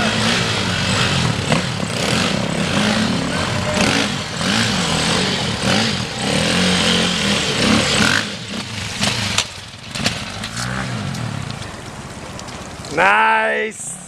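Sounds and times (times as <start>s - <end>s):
dirt bike engine revving: 0.0s - 11.5s.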